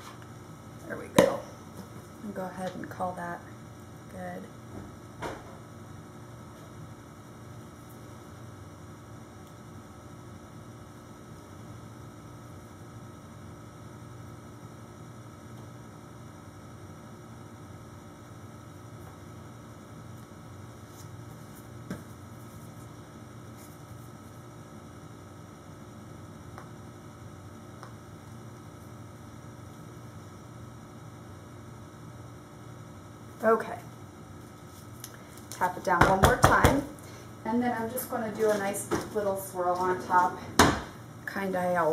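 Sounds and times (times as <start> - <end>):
electrical hum: 0.0 - 41.9.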